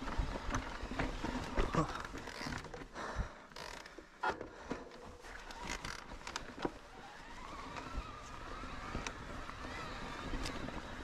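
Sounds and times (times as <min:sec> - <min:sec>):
bike knocking and rattling: 0:00.0 - 0:11.0
rolling tyre noise: 0:00.0 - 0:11.0.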